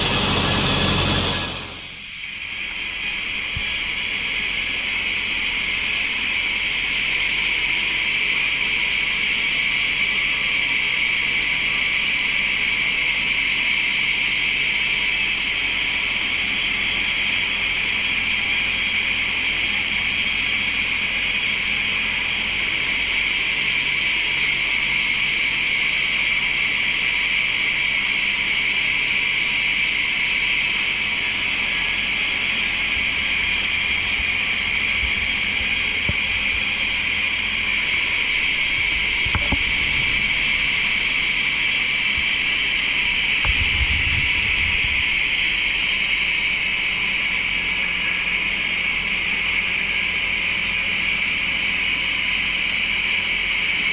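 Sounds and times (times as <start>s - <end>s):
sawmill machinery hissing: 0.0s - 53.9s.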